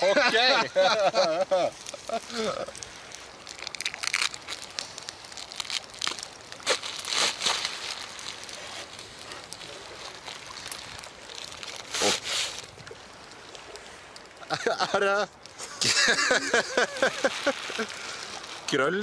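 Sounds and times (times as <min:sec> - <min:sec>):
plastic bag crinkling: 0:01.7 - 0:14.6, 0:16.4 - 0:19.0.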